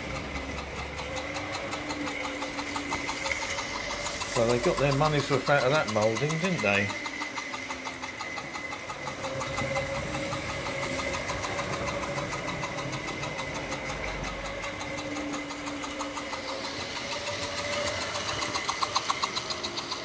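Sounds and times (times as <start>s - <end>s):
fast clicking of wheels: 0.0s - 20.0s
model train motor whine: 0.0s - 20.0s.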